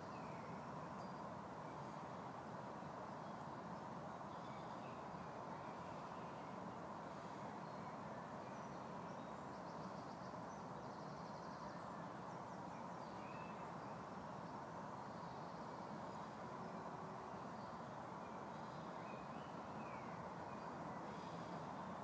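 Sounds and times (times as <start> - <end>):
low background hiss: 0.0 - 22.0.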